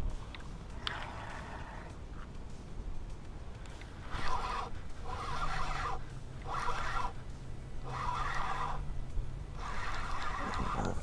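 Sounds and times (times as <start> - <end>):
spinning reel whirring: 0.0 - 11.0.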